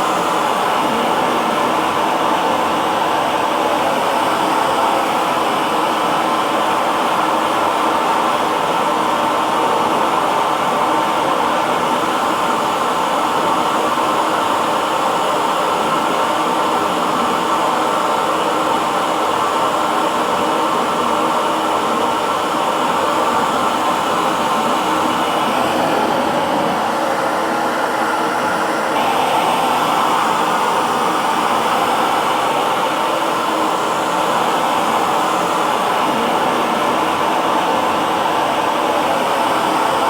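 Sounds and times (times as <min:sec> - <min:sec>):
hair dryer blowing: 0:00.0 - 0:40.0.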